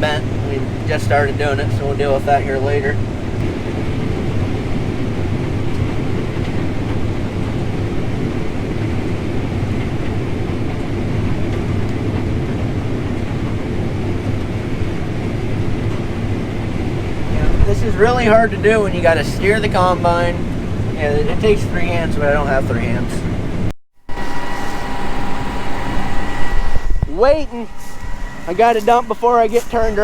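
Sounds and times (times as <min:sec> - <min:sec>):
combine harvester running: 0:00.0 - 0:30.0.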